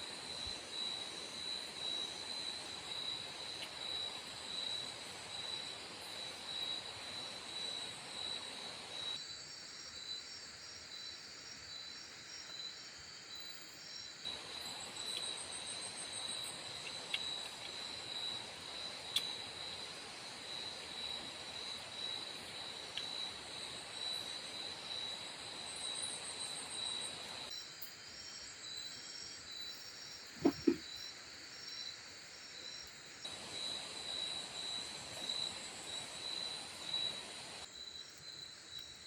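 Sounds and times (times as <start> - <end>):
background hiss: 0.0 - 39.0
fainter insect trills: 0.0 - 39.0
insects chirring: 0.0 - 39.0.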